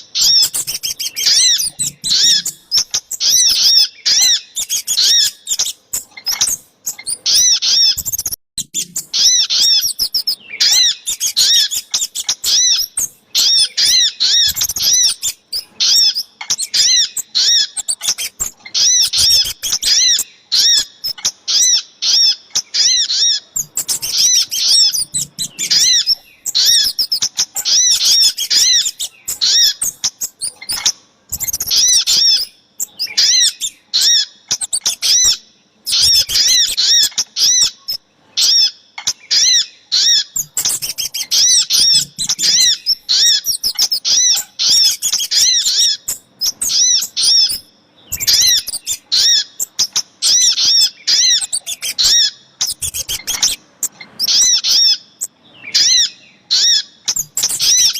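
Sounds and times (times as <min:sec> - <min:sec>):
birds calling high chip notes: 0:00.0 - 0:57.9.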